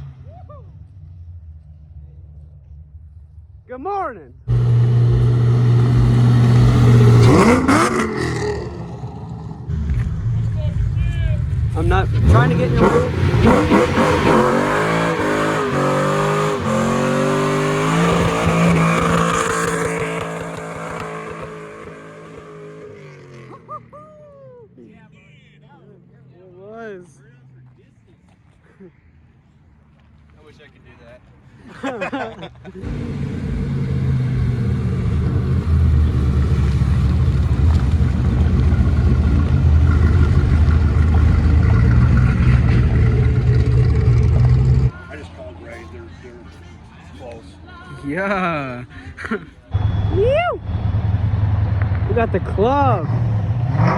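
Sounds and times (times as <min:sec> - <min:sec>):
car engine accelerating: 0:04.3 - 0:28.6, 0:32.6 - 0:53.9.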